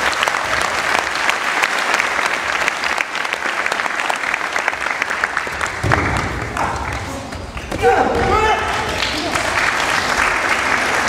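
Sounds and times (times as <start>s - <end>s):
audience applauding: 0.0s - 8.0s, 8.6s - 11.0s.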